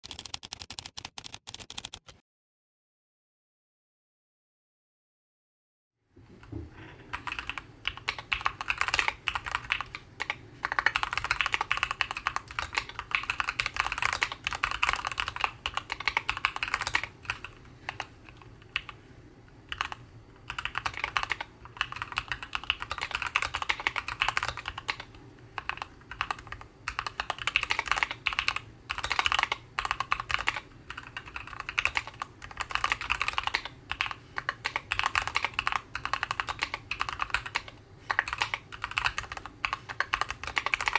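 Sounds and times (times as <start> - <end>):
keyboard typing clacks: 0.0 - 2.2, 7.1 - 19.0, 19.7 - 40.9.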